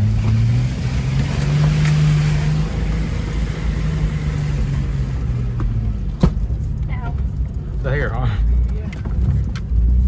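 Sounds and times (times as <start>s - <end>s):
car engine pulling: 0.0s - 10.0s.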